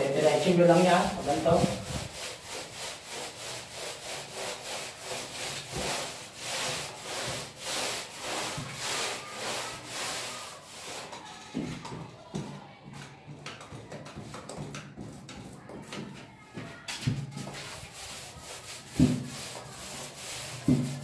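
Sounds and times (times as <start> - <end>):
paintbrush scrubbing concrete wall: 0.0 - 12.0, 13.7 - 21.0.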